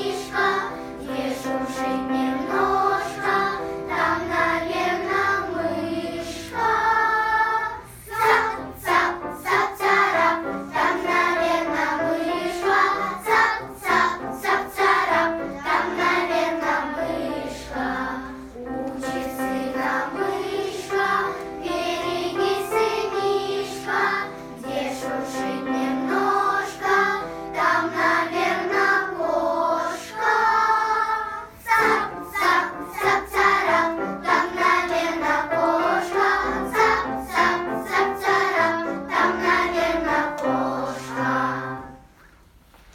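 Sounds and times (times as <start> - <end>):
children's choir singing: 0.0 - 42.2.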